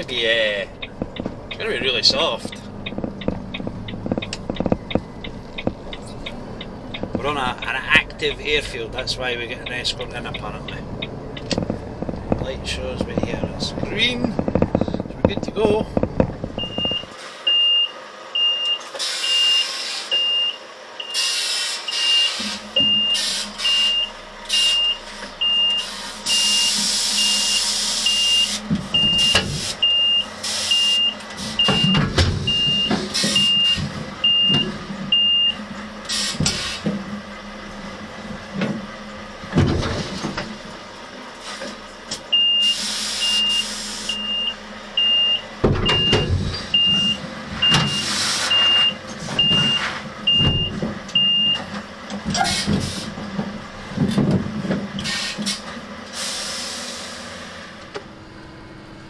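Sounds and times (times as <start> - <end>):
truck reversing alarm beeping: 0.0 - 36.9, 42.3 - 53.2
diesel engine hum: 0.0 - 59.0.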